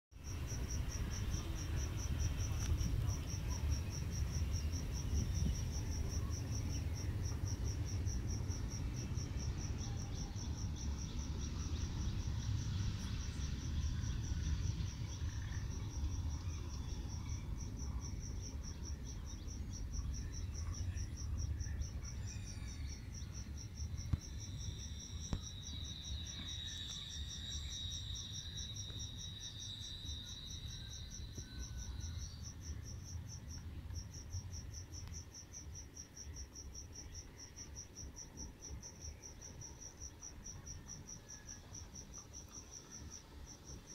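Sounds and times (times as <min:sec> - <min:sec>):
insects trilling: 0:00.2 - 0:43.9
lower insect tone: 0:00.2 - 0:43.9.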